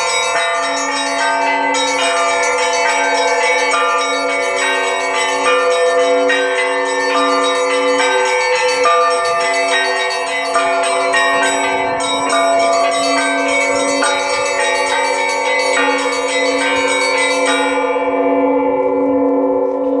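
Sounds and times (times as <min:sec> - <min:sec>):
large bells humming: 0:00.0 - 0:20.0
small bells struck rhythmically: 0:00.0 - 0:20.0.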